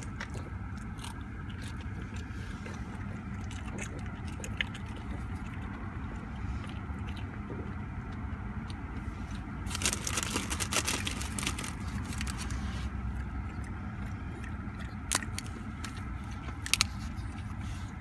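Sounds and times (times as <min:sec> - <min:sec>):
dog crunching peas: 0:00.0 - 0:17.9
low car rumble: 0:00.0 - 0:18.0.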